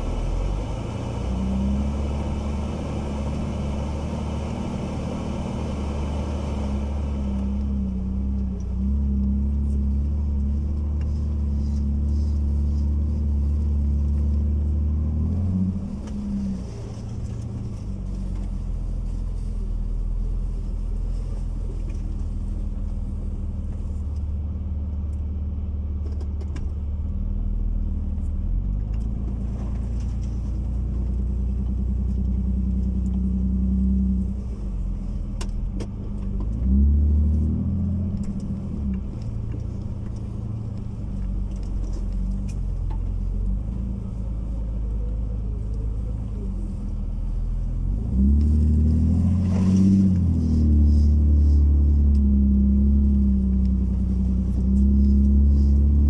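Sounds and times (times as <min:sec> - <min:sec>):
car engine running at low revs: 0:00.0 - 0:56.0.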